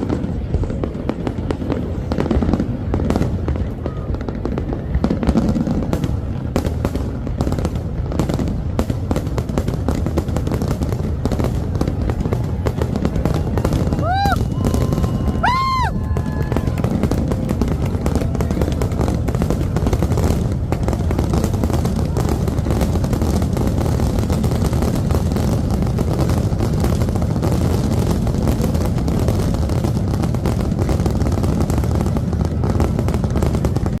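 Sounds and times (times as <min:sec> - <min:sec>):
fireworks booming: 0:00.0 - 0:34.0
fireworks crackling: 0:00.0 - 0:34.0.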